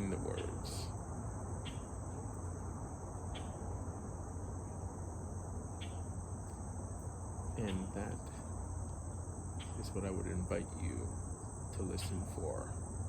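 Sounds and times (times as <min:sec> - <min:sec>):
distant highway traffic hum: 0:00.0 - 0:13.0
high-pitched insect chorus: 0:00.0 - 0:13.0.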